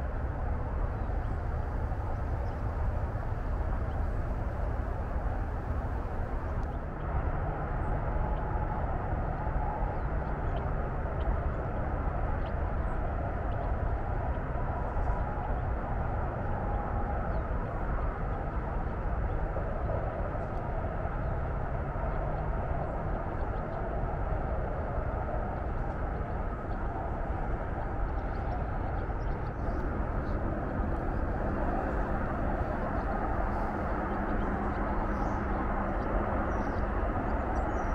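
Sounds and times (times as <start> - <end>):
highway traffic rumble: 0.0 - 37.9.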